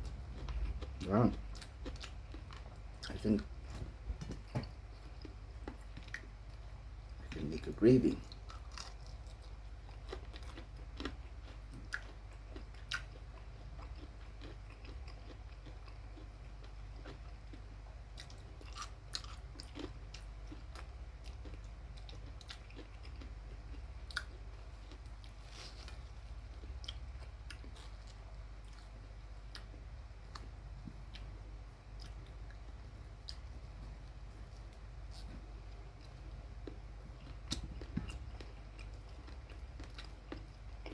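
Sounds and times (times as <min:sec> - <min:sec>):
person chewing crispy food: 0:00.0 - 0:40.9
steady low hum: 0:00.0 - 0:40.9.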